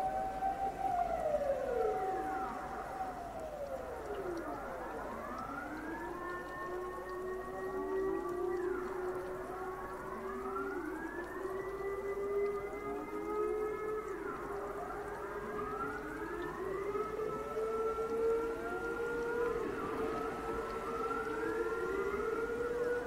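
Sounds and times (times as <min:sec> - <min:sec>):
wailing warning sirens: 0:00.0 - 0:23.0.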